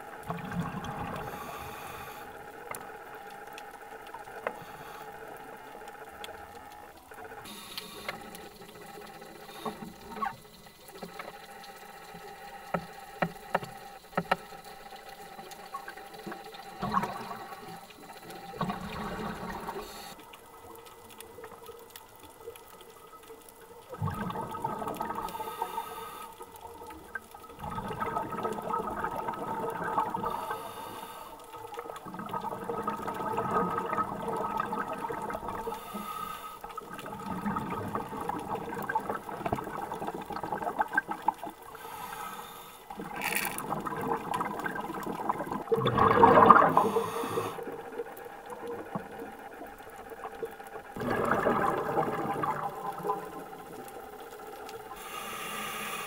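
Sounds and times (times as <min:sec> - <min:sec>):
underwater bubbling water: 0:00.0 - 0:56.0.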